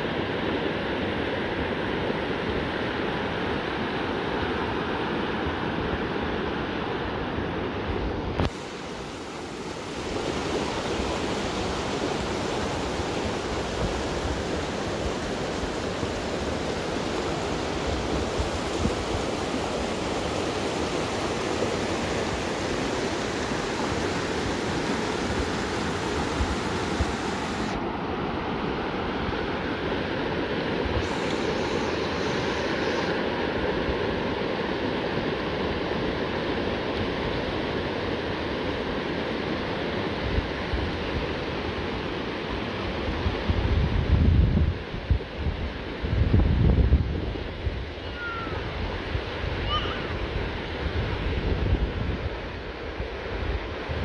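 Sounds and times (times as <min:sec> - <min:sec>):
river water rushing over rocks: 0:00.0 - 0:43.3.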